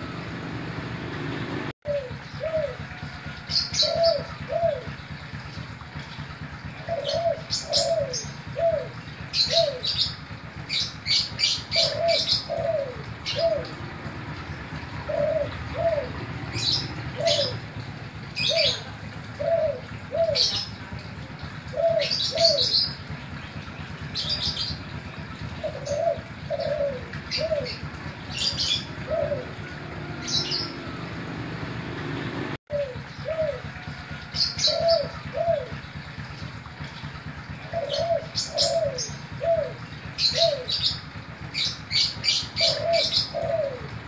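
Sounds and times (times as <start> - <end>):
dove cooing: 1.9 - 36.3, 37.2 - 44.0.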